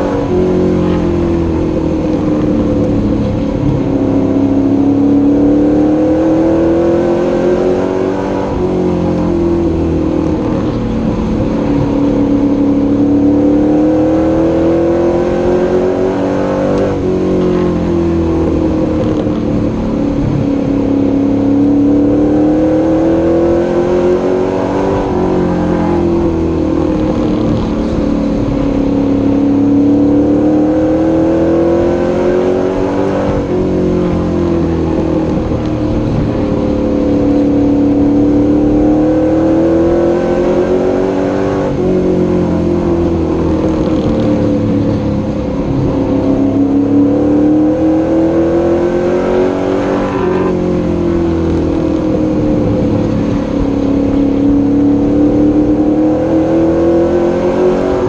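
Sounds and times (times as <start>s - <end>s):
racing truck engine: 0.0s - 58.0s.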